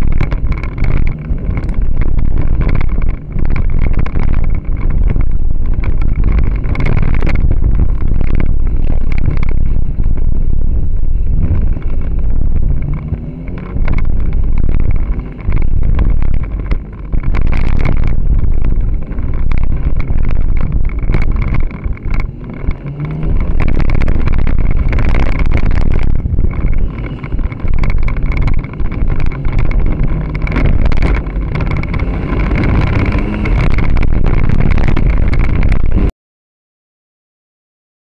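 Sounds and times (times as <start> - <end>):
car engine running hard: 0.0 - 36.1
vibration rattle: 0.0 - 36.1
wind buffeting: 0.0 - 36.1.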